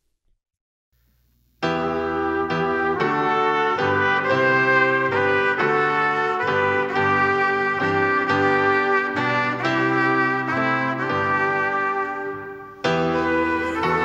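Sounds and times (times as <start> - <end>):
trumpet playing a melody: 1.6 - 14.0
chordal instrumental accompaniment: 1.7 - 14.0.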